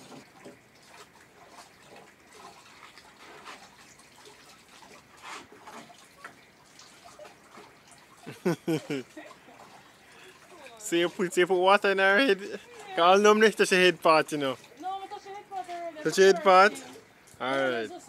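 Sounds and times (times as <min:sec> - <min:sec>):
water splashing and dripping: 0:00.0 - 0:18.0.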